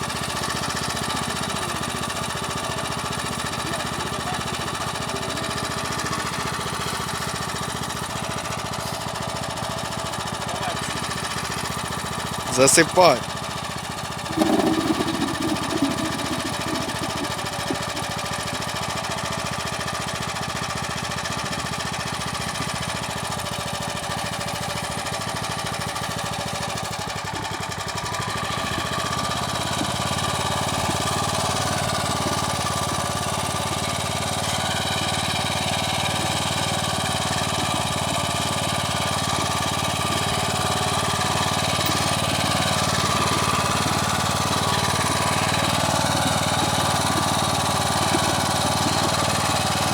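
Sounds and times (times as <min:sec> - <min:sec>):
walk-behind tractor engine running: 0:00.0 - 0:49.9.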